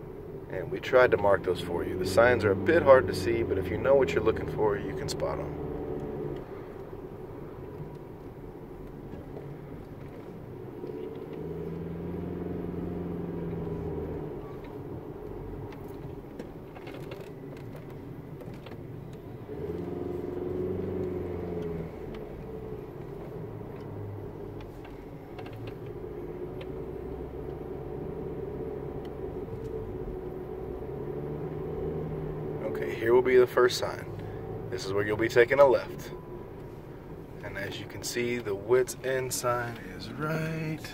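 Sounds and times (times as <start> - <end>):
car engine from inside cabin: 0.0 - 40.9
road noise: 0.0 - 40.9.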